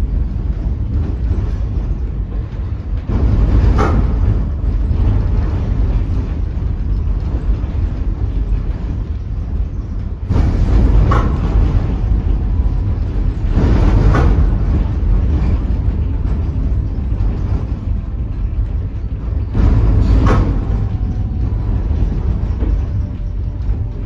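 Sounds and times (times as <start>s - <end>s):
tram low rumble: 0.0s - 24.0s.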